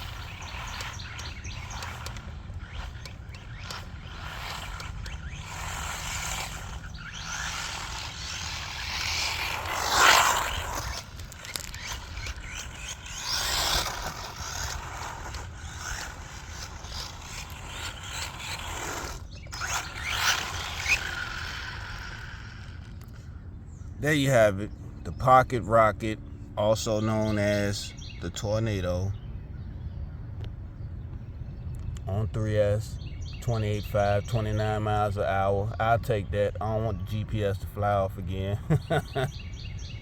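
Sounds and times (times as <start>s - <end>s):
rc truck motor passing by: 0.0s - 29.0s, 32.0s - 40.0s.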